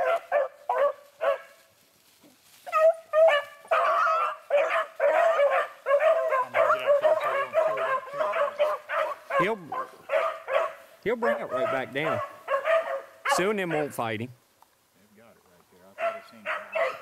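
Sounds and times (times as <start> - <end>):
dogs baying and yelping: 0.0 - 1.5, 2.6 - 14.0, 16.0 - 17.0.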